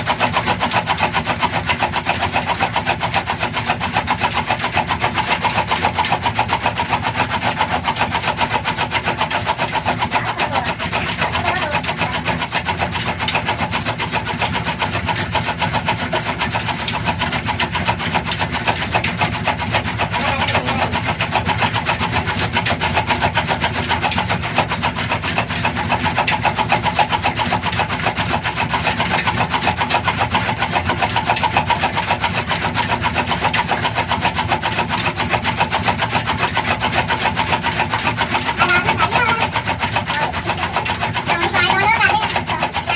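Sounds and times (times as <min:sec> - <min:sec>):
stationary diesel engine running: 0:00.0 - 0:42.9.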